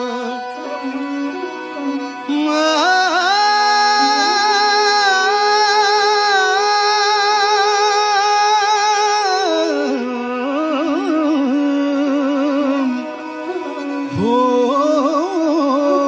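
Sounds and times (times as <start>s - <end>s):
person singing a long note: 0.0s - 16.0s
steady drone: 0.0s - 16.0s.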